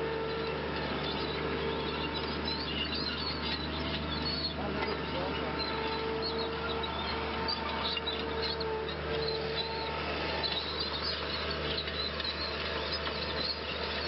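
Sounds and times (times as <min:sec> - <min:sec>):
small birds chirping: 0:00.2 - 0:14.0.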